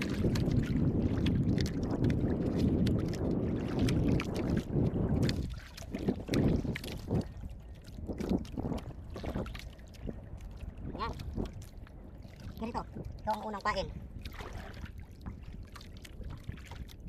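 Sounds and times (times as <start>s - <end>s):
water and wind rushing: 0.0s - 17.0s.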